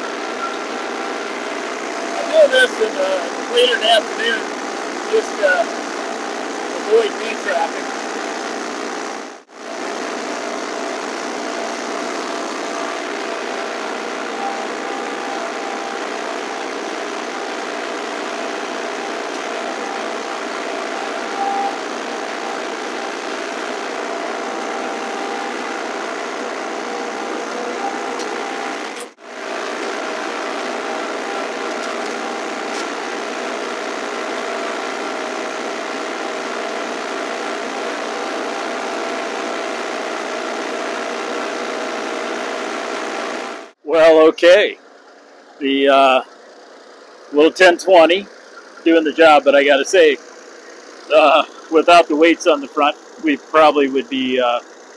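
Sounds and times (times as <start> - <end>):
tractor diesel engine under load: 0.0 - 43.0, 43.6 - 54.9.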